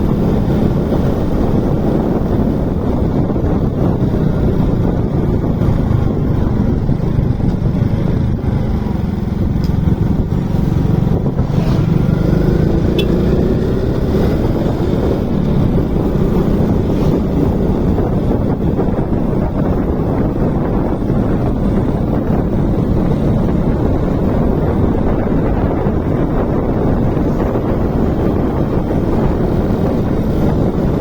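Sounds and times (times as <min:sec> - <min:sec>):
motorcycle engine running: 0:00.0 - 0:31.0
wind on microphone: 0:00.0 - 0:31.0.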